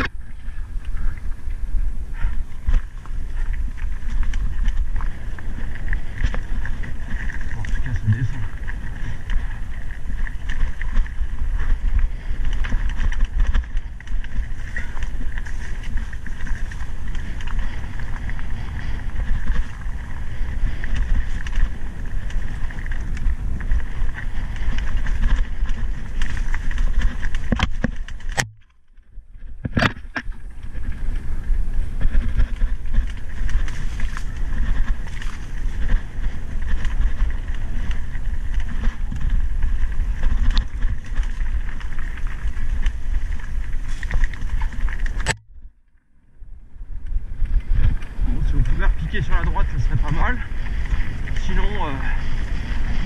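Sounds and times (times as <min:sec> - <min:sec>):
bike rattling: 0:00.0 - 0:53.0
wind and tyres rumbling: 0:00.0 - 0:53.0.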